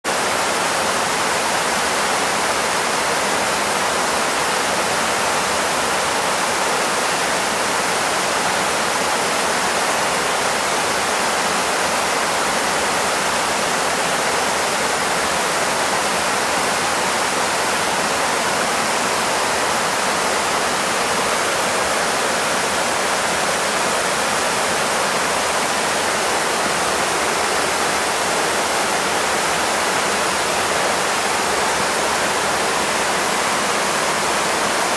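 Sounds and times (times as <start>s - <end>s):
river rushing over stones: 0.1s - 34.9s.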